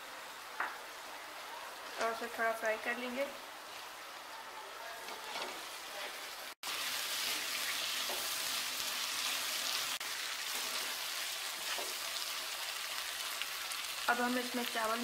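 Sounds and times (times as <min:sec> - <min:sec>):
vegetables sizzling in hot oil: 0:00.0 - 0:04.3, 0:05.1 - 0:15.0.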